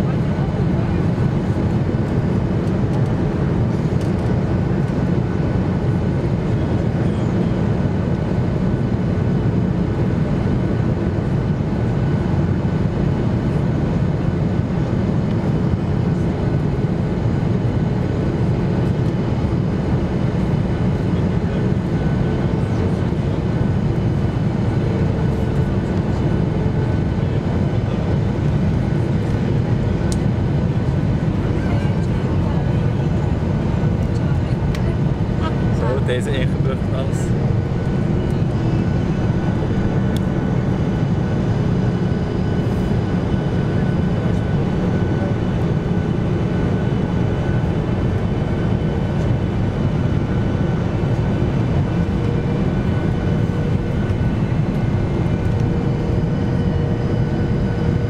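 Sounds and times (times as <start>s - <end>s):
airliner cabin engine roar: 0.0s - 58.0s.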